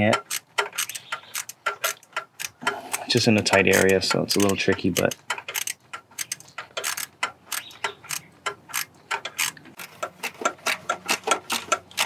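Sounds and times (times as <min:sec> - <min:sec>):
ratchet clicking: 0:00.0 - 0:12.0.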